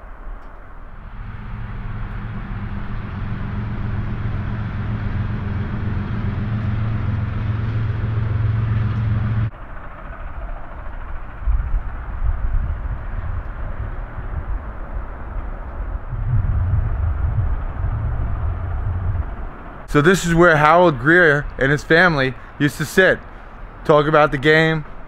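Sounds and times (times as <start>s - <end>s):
low mechanical rumble with hum: 0.0s - 25.0s.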